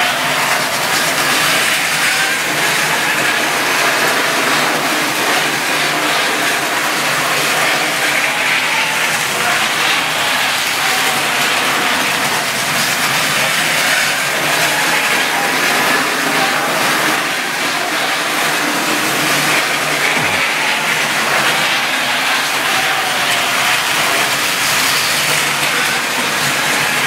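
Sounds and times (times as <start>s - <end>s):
model trains running on track: 0.0s - 27.0s.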